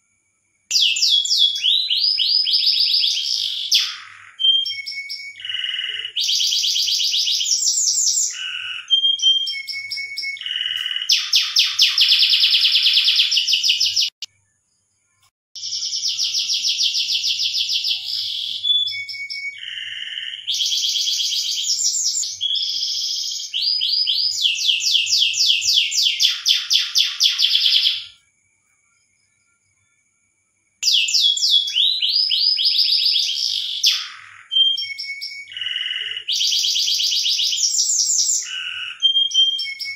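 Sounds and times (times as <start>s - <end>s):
canary singing trills: 0.7s - 28.2s, 30.8s - 39.9s.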